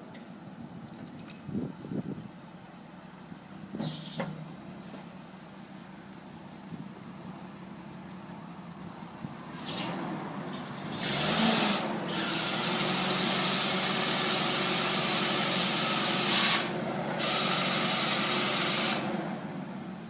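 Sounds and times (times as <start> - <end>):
plow engine running: 2.4 - 20.0.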